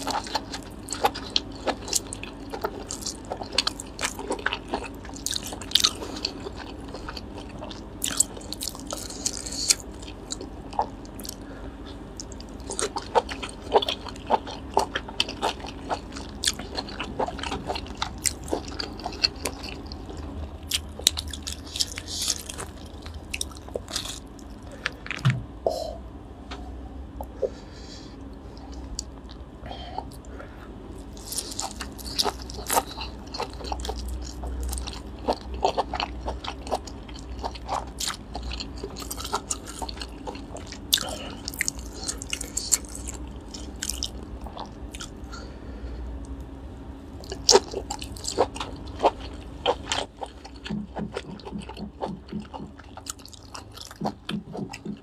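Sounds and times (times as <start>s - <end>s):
biting and wet chewing: 0.0s - 25.3s, 28.3s - 45.5s, 47.2s - 55.0s.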